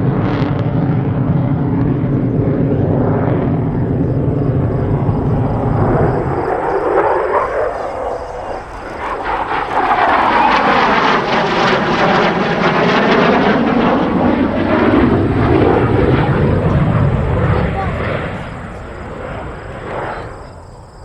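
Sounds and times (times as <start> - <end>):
fighter jet roaring past: 0.0 - 21.0.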